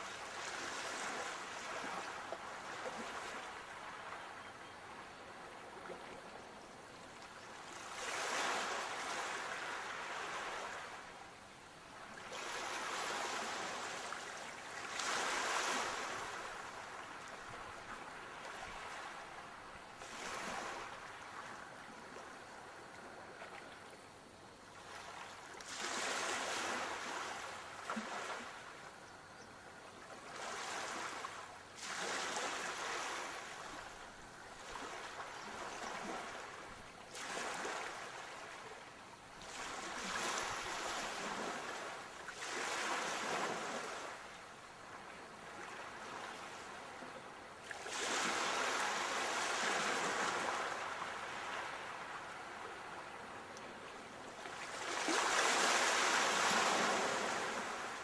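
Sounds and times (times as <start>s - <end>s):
sea waves breaking on shore: 0.0s - 4.3s, 7.4s - 11.3s, 11.9s - 24.1s, 24.7s - 28.9s, 30.1s - 58.0s.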